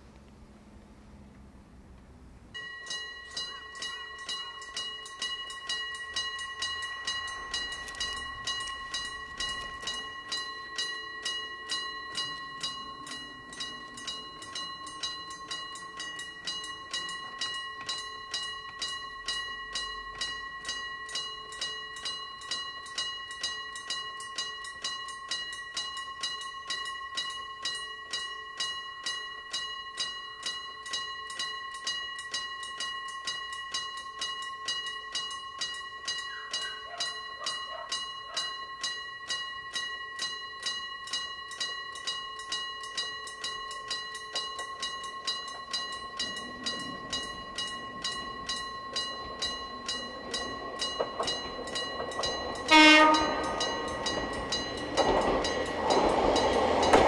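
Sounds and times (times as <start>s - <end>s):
level-crossing warning bell: 2.5s - 57.0s.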